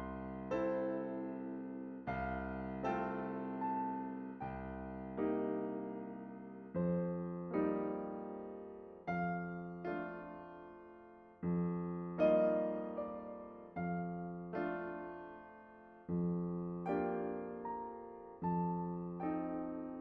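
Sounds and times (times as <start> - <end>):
slow soft solo piano: 0.0 - 20.0.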